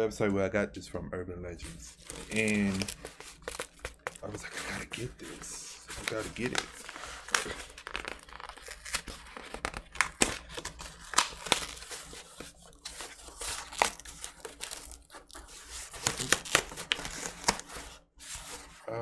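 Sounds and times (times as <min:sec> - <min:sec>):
cardboard ripping: 0:01.6 - 0:18.8.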